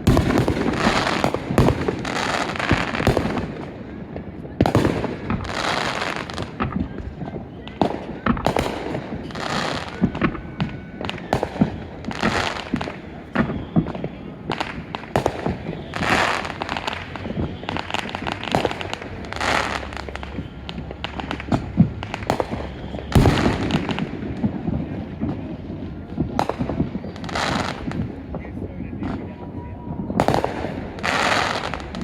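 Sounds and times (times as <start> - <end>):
fireworks bangs and pops: 0.0 - 32.0
fireworks crackling bursts: 0.0 - 32.0.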